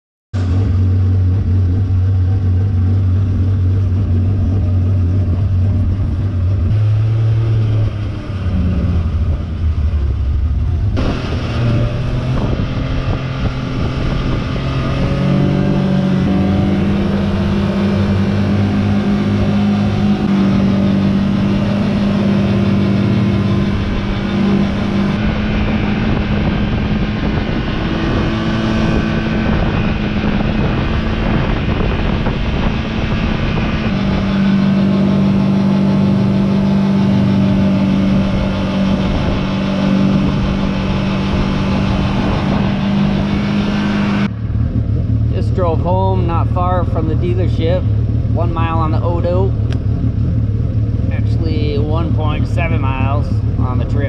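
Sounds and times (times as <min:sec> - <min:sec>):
vehicle engine running: 0:00.3 - 0:54.0.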